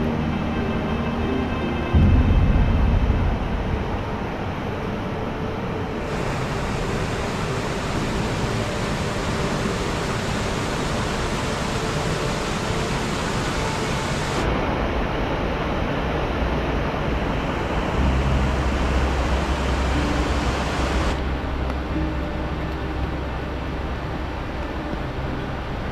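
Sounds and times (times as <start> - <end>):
deep rumble: 1.8 - 12.6, 13.5 - 25.9
stream rushing over rocks: 4.3 - 25.9.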